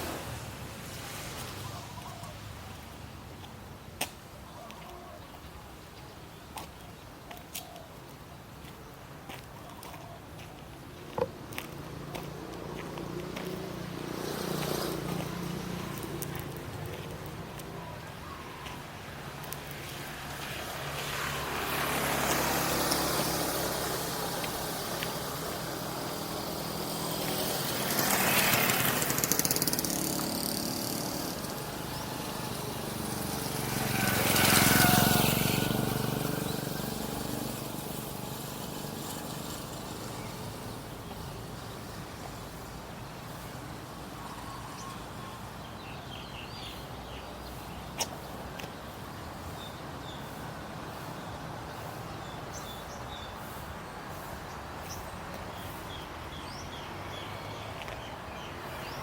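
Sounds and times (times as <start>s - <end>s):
motor vehicles passing: 0.0s - 3.9s, 8.5s - 59.0s.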